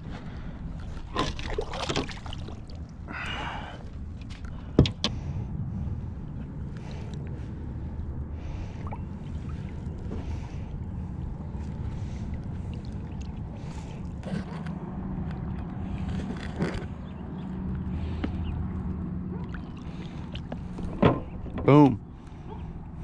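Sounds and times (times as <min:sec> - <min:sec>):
water lapping beside kayak: 0:00.0 - 0:23.0
wind rumble on microphone: 0:00.0 - 0:23.0.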